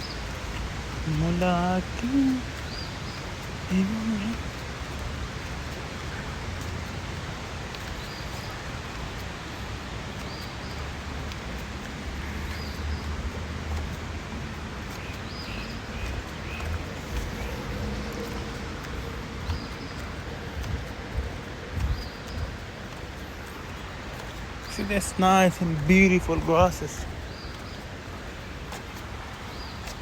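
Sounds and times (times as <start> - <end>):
rushing outdoor background: 0.0 - 30.0.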